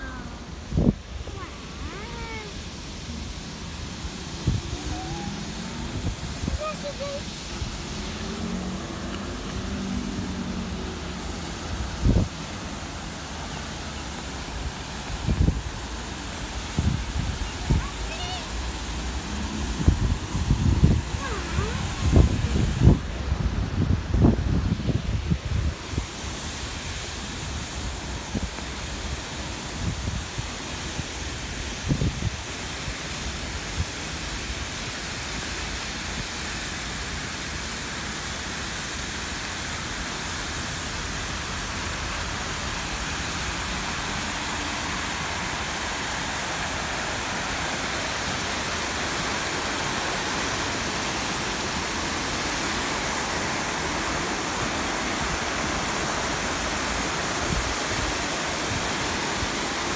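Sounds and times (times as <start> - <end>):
fountain water splashing into pool: 0.0 - 59.9.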